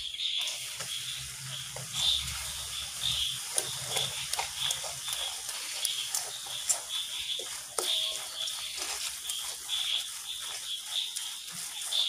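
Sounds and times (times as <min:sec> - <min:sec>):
high repeated chirping: 0:00.0 - 0:12.0
spices frying in hot oil: 0:00.0 - 0:12.0.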